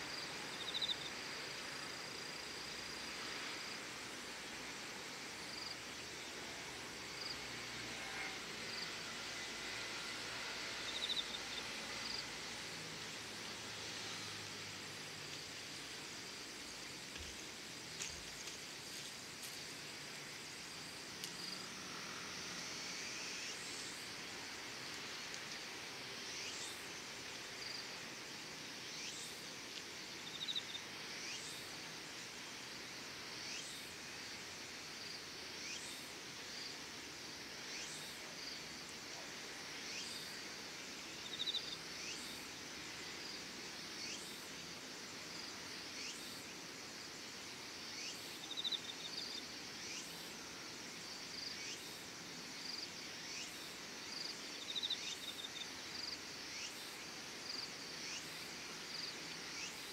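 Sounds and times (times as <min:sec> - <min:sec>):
insect chorus: 0:00.0 - 0:59.9
upward sweeping insect call: 0:00.1 - 0:36.8, 0:37.4 - 0:59.9
loud insect trill: 0:00.1 - 0:59.9.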